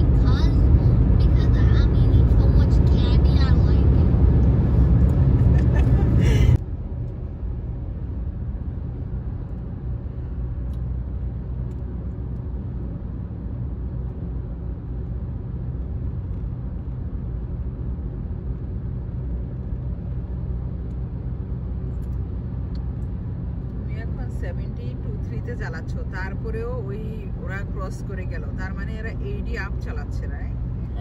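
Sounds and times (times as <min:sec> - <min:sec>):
car tyre and engine rumble: 0:00.0 - 0:31.0.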